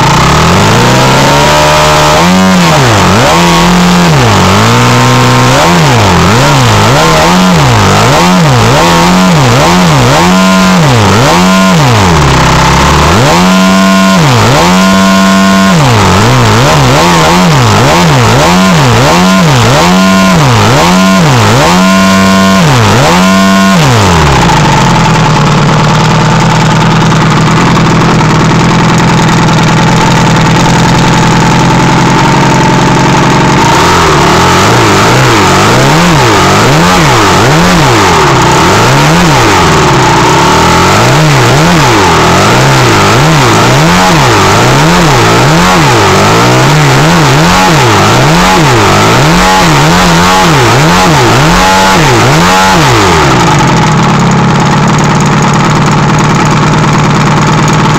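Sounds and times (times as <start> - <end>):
model aircraft engine revving: 0.0 - 57.9.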